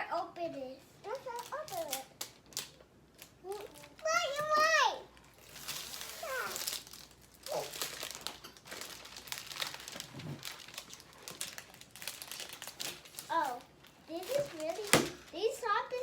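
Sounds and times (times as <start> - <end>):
plastic and paper packaging crinkling: 1.0 - 16.0.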